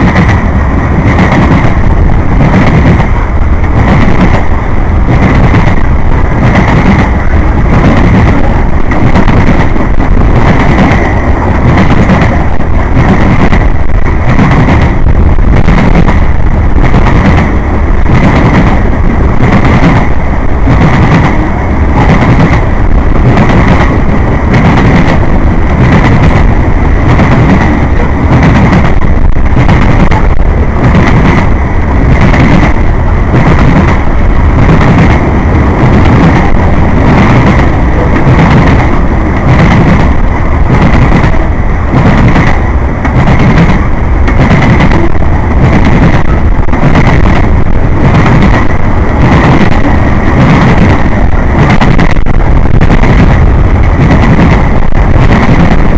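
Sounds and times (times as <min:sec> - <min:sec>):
heavy train rumble: 0:00.0 - 0:55.9
wheels clacking over rail joints: 0:00.0 - 0:55.9.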